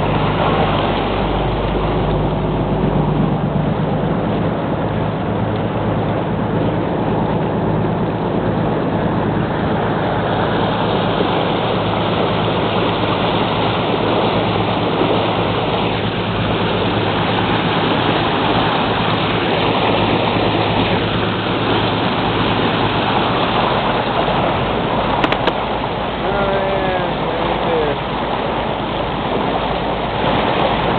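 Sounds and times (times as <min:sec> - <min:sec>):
boat engine droning: 0:00.0 - 0:30.9
water rushing along hull: 0:00.0 - 0:30.9.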